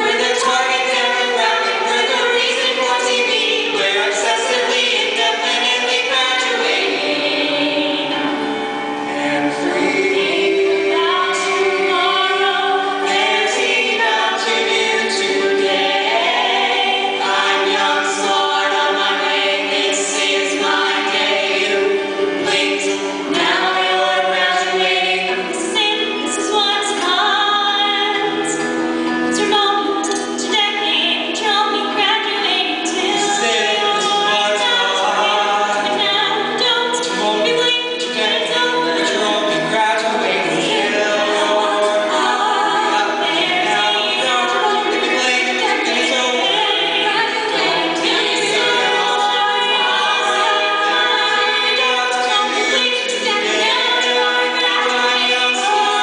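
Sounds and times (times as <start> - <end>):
vocal quartet singing in harmony: 0.0 - 56.0.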